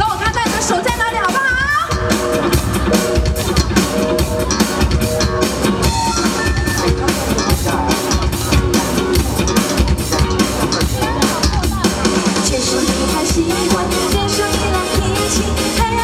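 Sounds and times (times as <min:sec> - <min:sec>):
live band playing pop: 0:00.0 - 0:16.0
wavering lead guitar line: 0:00.0 - 0:16.0.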